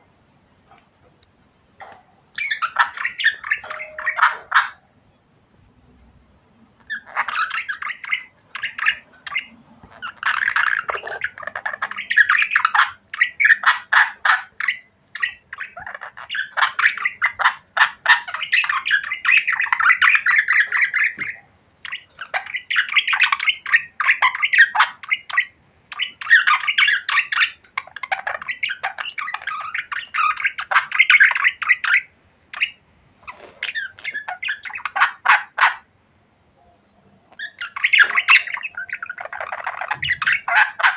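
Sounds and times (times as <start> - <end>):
budgerigars chattering: 1.8 - 4.9, 6.8 - 35.9, 37.4 - 40.9.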